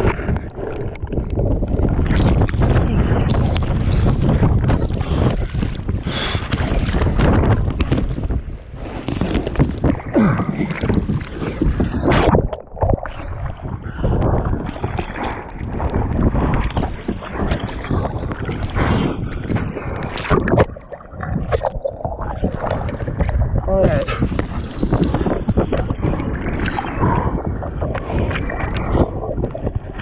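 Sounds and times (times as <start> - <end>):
waves splashing against a kayak: 0.0 - 24.4
wind buffeting the microphone: 0.0 - 30.0.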